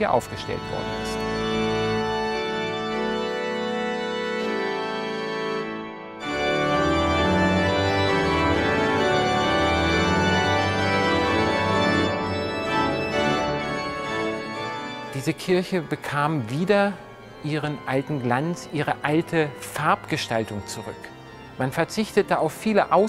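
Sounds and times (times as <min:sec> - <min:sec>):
pipe organ chords: 0:00.0 - 0:23.0.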